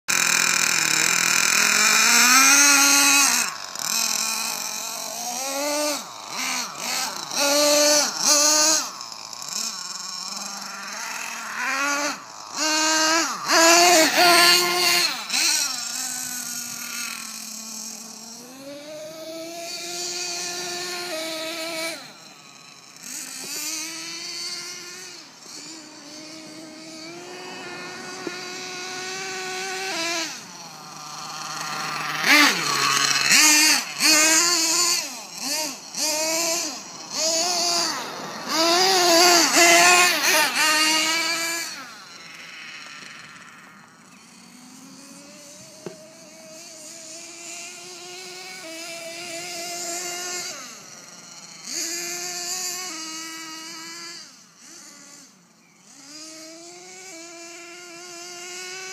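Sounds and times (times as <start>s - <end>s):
rc truck nitro engine revving: 0.1s - 58.9s.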